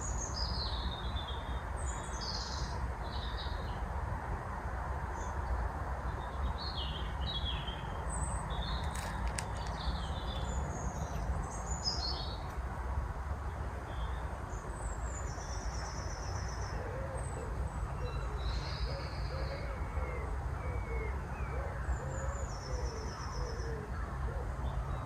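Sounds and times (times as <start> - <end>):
songbirds singing: 0.0 - 3.9, 5.1 - 12.7, 13.3 - 25.0.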